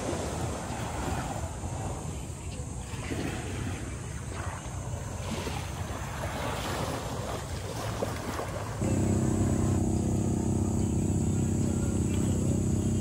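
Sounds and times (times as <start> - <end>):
small waves washing onto beach: 0.0 - 13.0
steady low hum: 0.0 - 13.0.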